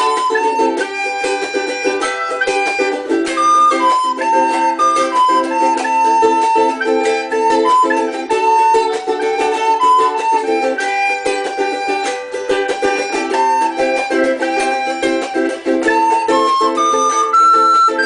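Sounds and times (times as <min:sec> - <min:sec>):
plucked string instrument music: 0:00.0 - 0:18.0.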